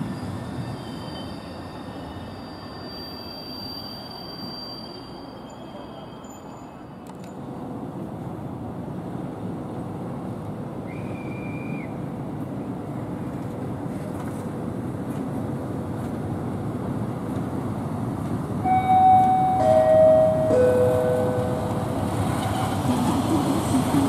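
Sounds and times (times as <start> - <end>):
electric locomotive rumbling: 0.0 - 24.0.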